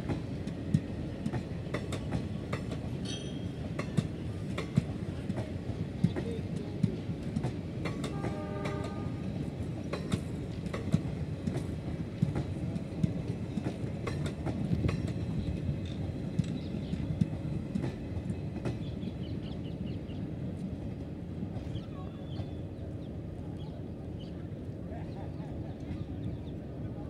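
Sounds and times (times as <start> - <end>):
train coaches rumbling past: 0.0 - 27.0.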